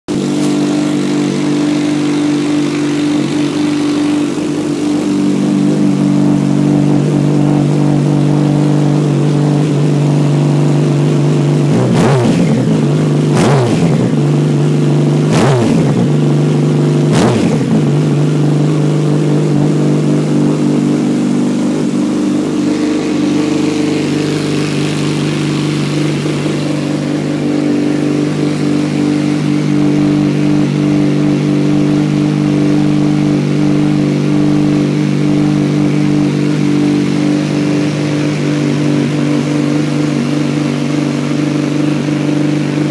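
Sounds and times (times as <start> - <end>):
engine throttle blips: 0.0 - 42.9
motorcycle engine idling: 0.1 - 42.9.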